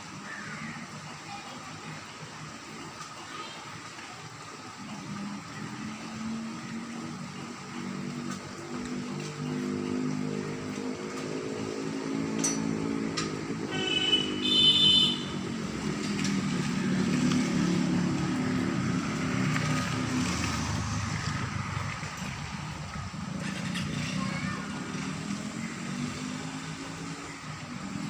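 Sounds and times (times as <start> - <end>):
vehicle engine running: 4.9 - 28.0.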